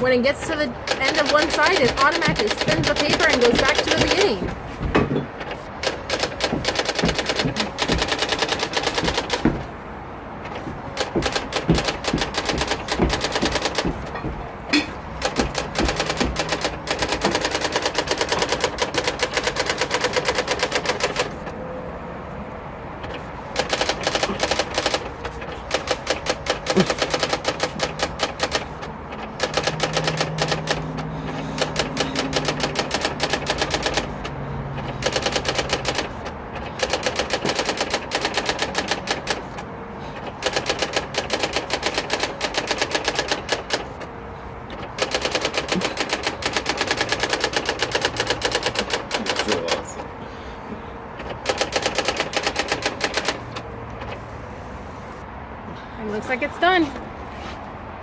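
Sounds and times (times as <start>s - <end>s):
electronic typewriter typing: 0.0s - 21.6s, 23.0s - 50.2s, 51.2s - 54.3s.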